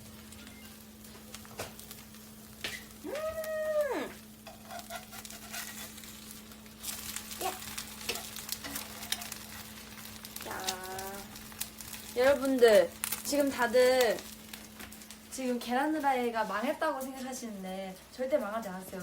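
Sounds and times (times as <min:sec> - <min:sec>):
eggs sizzling in a pan: 0:00.0 - 0:19.0.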